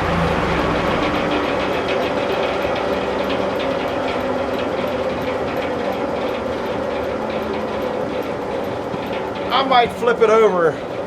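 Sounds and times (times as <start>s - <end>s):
fast even ticking: 0.0s - 11.0s
sawmill machinery running: 0.0s - 11.0s.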